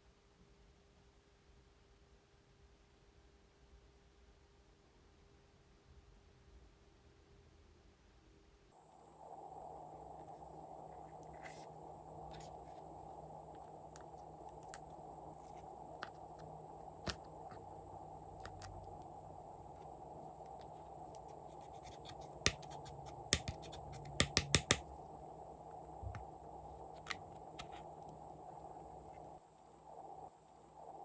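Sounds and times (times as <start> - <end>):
steady low hiss: 0.0 - 31.0.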